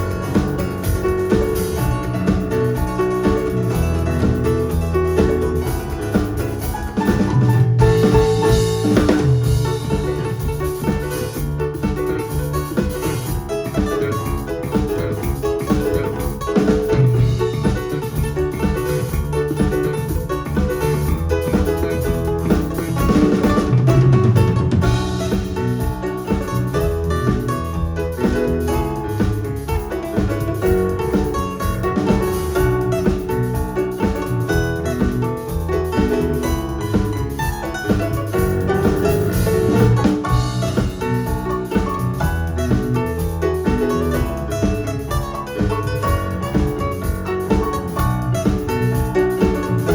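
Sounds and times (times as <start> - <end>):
band playing on stage: 0.0 - 49.9
drum kit: 0.0 - 49.9
guitar: 0.0 - 49.9.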